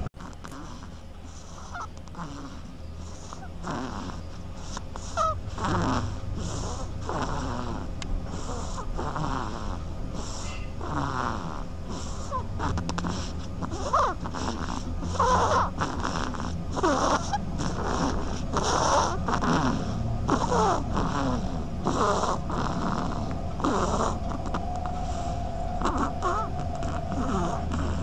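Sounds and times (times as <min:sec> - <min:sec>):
animal snoring wheezily: 0:00.0 - 0:28.0.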